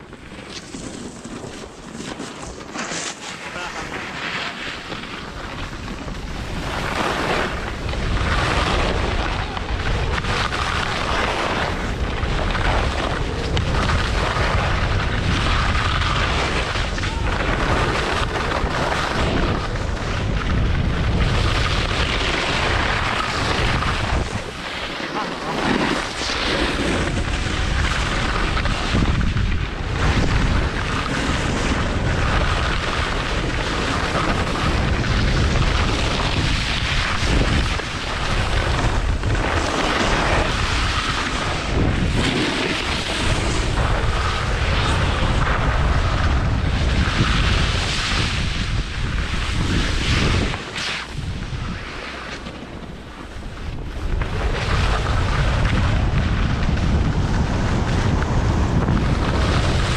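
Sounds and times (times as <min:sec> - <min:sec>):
skis scraping over packed snow: 0:00.0 - 0:59.9
wind buffeting microphone: 0:00.0 - 0:59.9.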